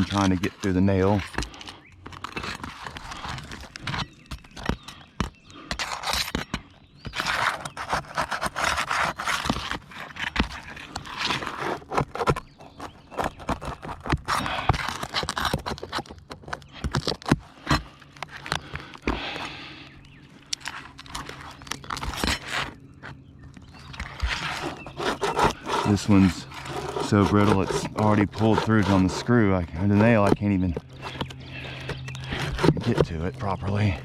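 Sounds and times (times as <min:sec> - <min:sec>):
roof shingles scraped and torn: 0:00.0 - 0:34.0.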